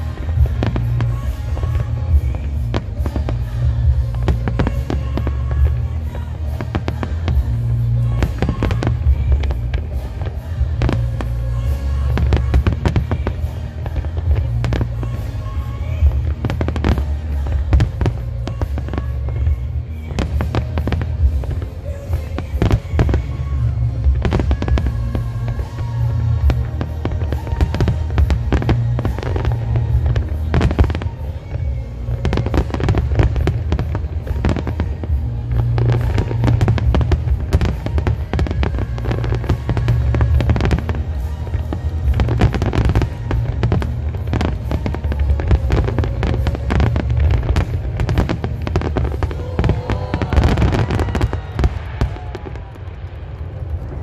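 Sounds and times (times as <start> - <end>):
fireworks bursts and crackling: 0.0 - 54.0
fireworks low booms: 0.0 - 54.0
music playing: 0.0 - 54.0.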